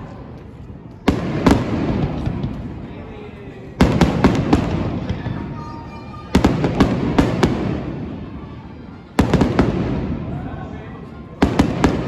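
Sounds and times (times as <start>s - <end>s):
fireworks bursting: 0.9s - 3.1s, 3.8s - 12.0s.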